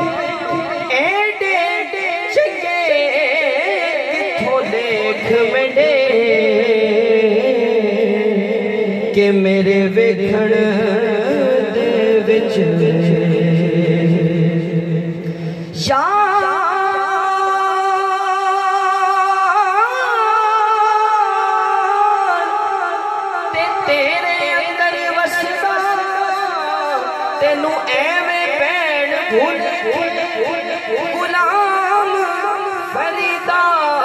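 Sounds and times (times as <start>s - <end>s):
man singing into microphone: 0.0s - 34.0s.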